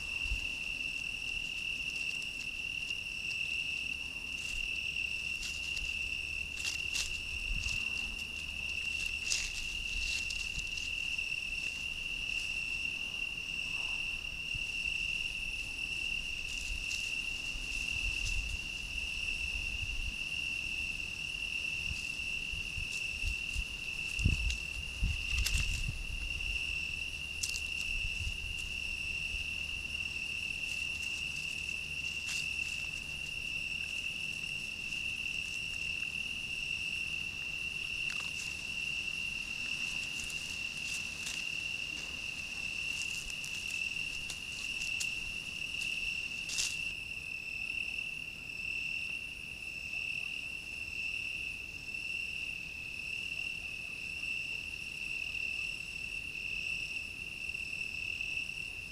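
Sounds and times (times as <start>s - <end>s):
crickets trilling: 0.0s - 58.9s.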